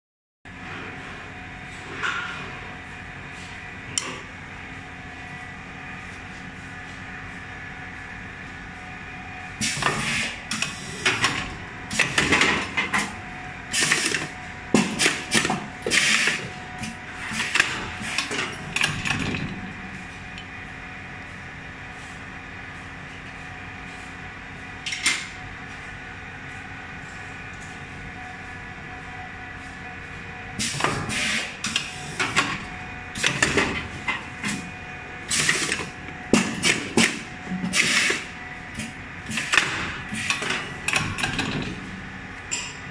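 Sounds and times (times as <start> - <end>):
machine humming: 0.5 - 42.9.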